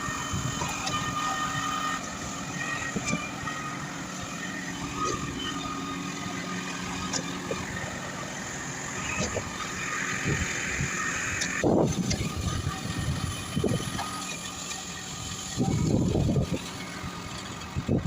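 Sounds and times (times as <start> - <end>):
concrete pump engine hum: 0.0 - 18.0
held whine: 0.0 - 18.0.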